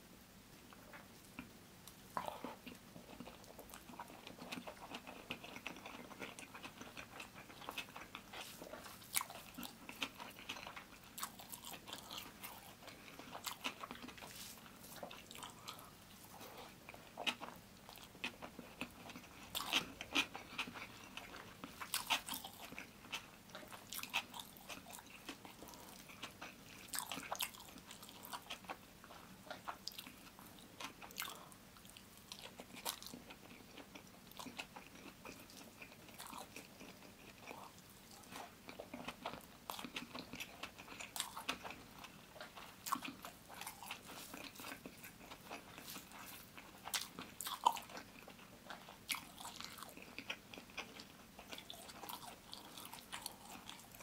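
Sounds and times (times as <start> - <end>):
close chewing with mouth clicks: 0.7 - 54.0.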